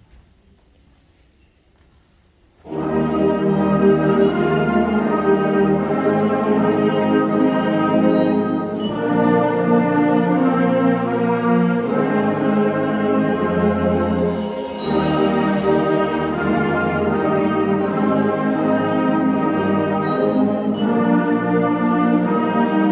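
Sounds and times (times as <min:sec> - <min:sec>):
concert band playing chords: 0:02.8 - 0:22.9.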